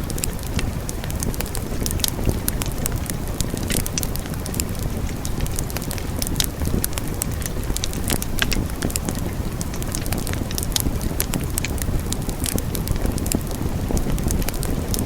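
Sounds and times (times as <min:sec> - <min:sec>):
fire crackling and popping: 0:00.0 - 0:15.0
wood fire rumbling: 0:00.0 - 0:15.0.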